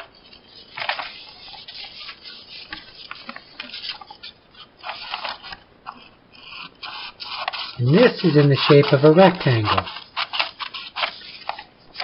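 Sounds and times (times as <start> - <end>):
paper rustling: 0.0 - 12.0
scissors cutting paper: 0.0 - 12.0.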